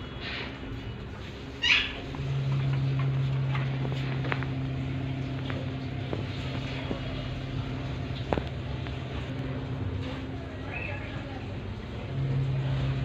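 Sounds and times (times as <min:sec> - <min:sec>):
low motor hum: 0:00.8 - 0:13.0.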